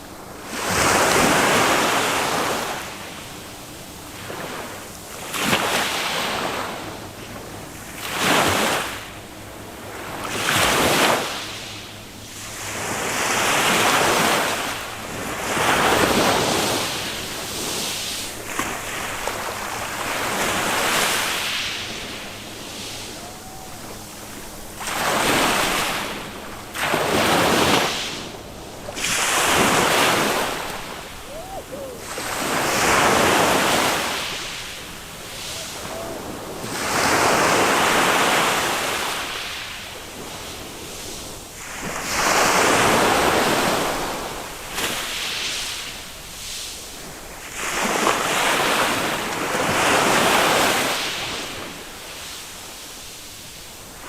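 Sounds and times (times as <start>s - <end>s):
small waves washing on sand: 0.0s - 54.0s.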